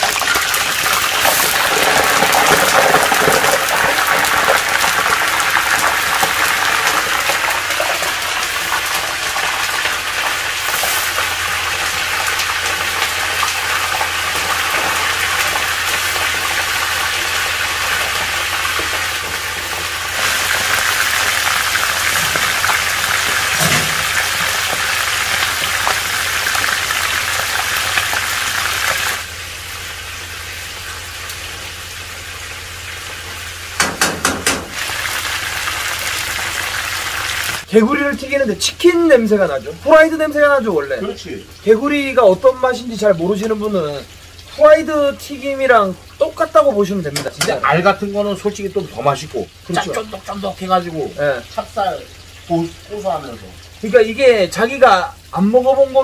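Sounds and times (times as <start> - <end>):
frogs sizzling in hot oil: 0.0 - 56.0.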